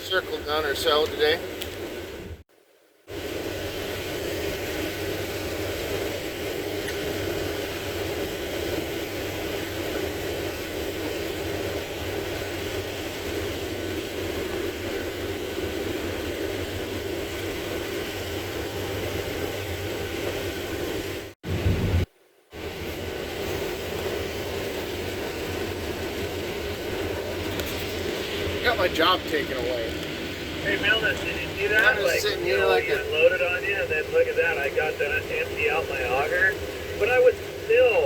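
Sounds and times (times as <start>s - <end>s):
combine harvester running: 0.0s - 2.4s, 3.1s - 38.0s.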